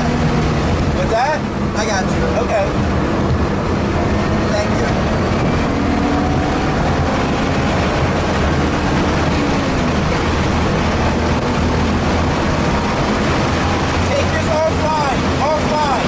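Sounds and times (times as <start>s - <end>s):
car engine running steadily: 0.0s - 16.0s
road and wind noise: 0.0s - 16.0s.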